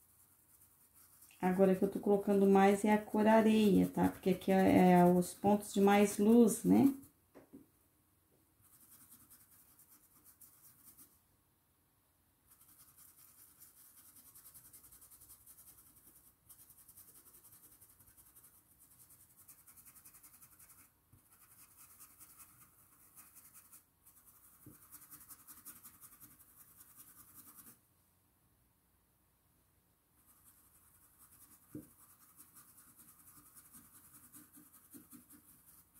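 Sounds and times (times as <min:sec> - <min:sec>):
paintbrush scrubbing cloth: 0:00.0 - 0:07.1, 0:08.6 - 0:11.2, 0:12.5 - 0:27.8, 0:30.2 - 0:35.9.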